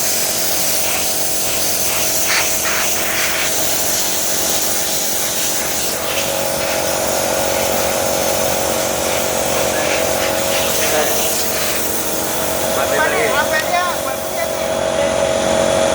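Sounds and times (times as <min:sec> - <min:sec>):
power tool humming with hiss: 0:00.0 - 0:15.6.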